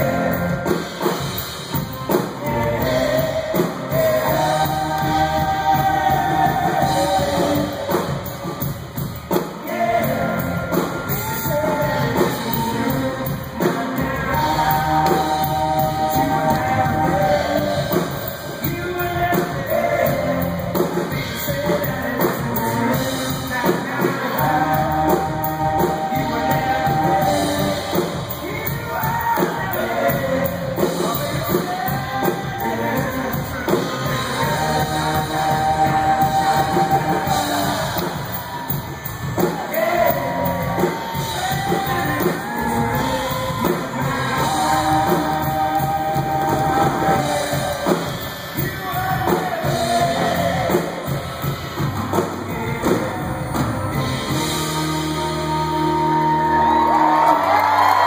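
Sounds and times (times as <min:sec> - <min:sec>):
live band with singing: 0:00.0 - 0:58.0.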